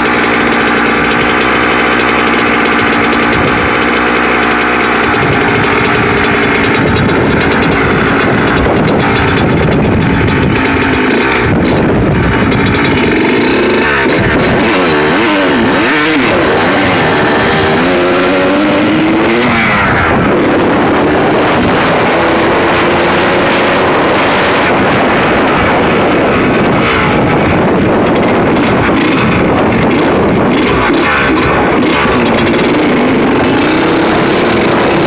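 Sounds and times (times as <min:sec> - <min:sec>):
two-stroke dirt bike engine revving: 0:00.0 - 0:35.0.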